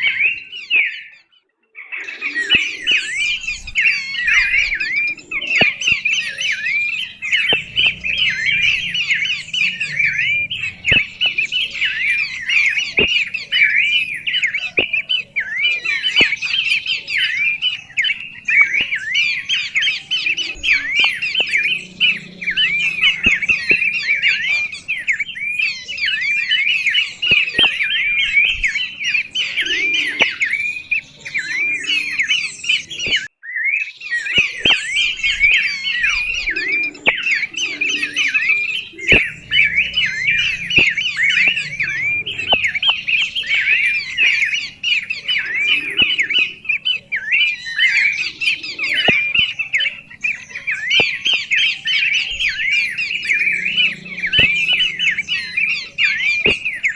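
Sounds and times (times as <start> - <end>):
birds chattering: 0.0 - 56.9.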